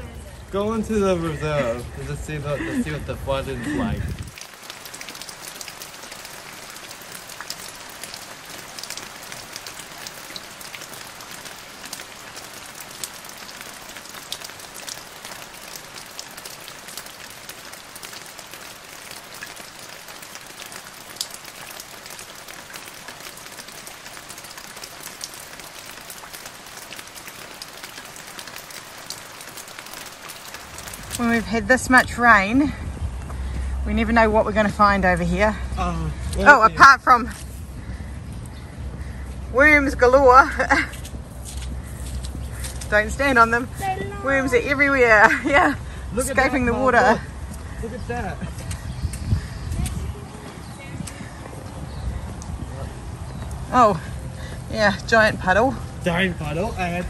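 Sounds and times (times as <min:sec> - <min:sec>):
rain on wet pavement: 0:00.0 - 0:57.0.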